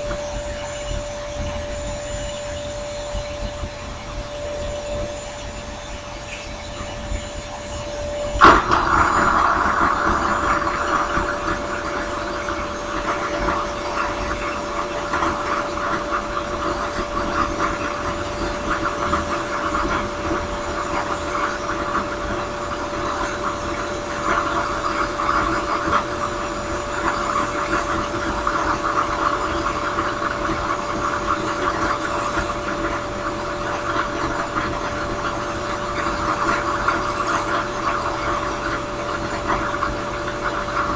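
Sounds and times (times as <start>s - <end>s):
drill press humming: 0.0s - 40.9s.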